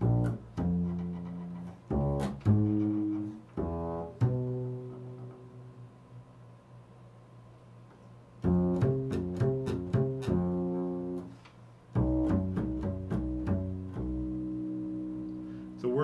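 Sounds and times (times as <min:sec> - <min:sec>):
double bass plucked notes: 0:00.0 - 0:06.4, 0:08.4 - 0:16.0.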